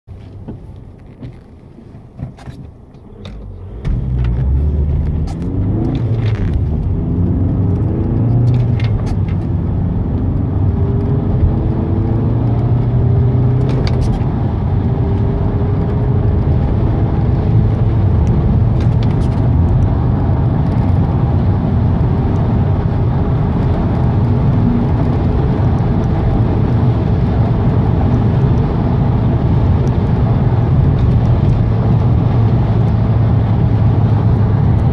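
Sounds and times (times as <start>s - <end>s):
car engine idling and accelerating: 0.1s - 34.9s.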